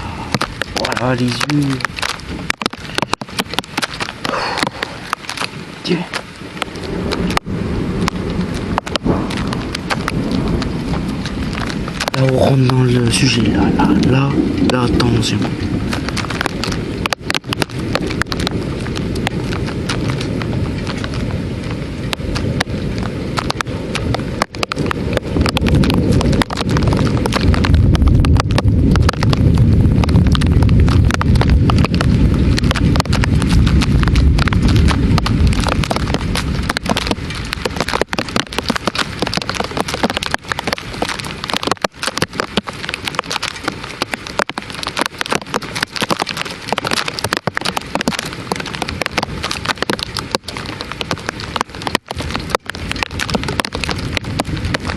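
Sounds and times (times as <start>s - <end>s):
heavy rain: 0.0s - 54.9s
low thunder rumble: 0.0s - 54.9s.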